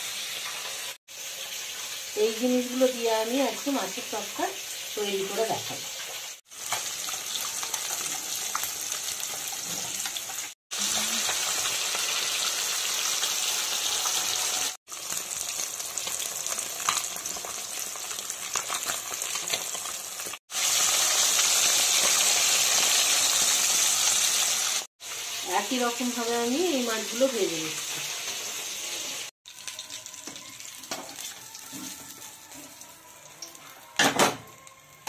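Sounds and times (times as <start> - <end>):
fish sizzling in hot oil: 0.0 - 35.0.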